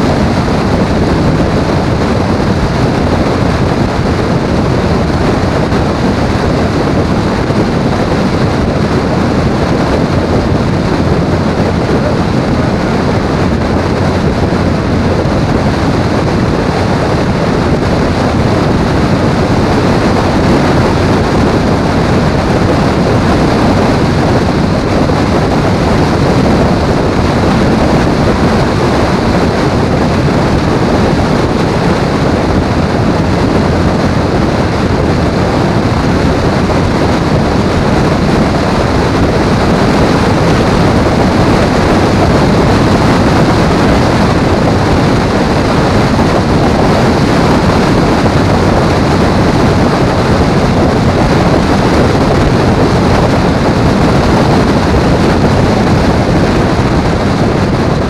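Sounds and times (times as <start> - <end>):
motorcycle engine cruising: 0.0 - 58.0
wind buffeting microphone: 0.0 - 58.0.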